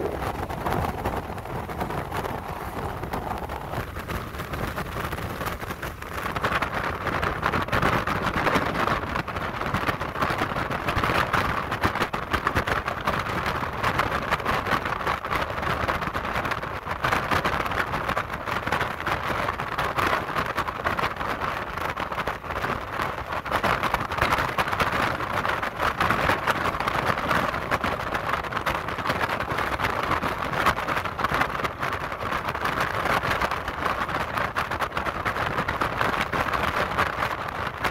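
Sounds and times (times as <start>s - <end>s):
car road and wind noise: 0.0s - 37.9s.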